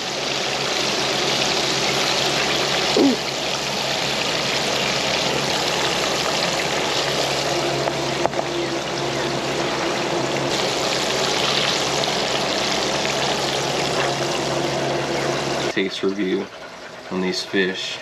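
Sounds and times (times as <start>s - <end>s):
fish frying in hot oil: 0.0s - 16.9s.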